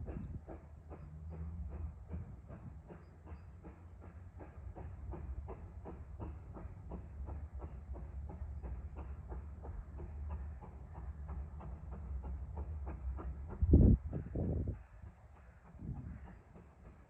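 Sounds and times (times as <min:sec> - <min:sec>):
low train rumble: 0:00.0 - 0:17.0
train wheels clicking over rail joints: 0:00.0 - 0:17.0.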